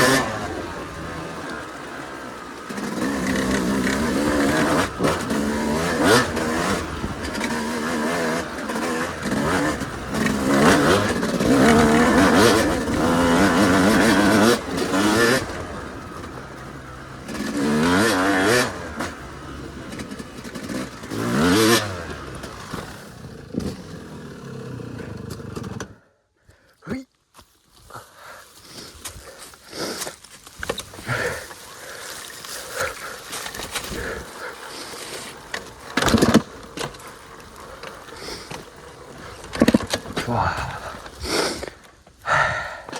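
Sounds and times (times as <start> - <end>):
dirt bike engine revving: 0.0 - 26.1, 30.9 - 42.9.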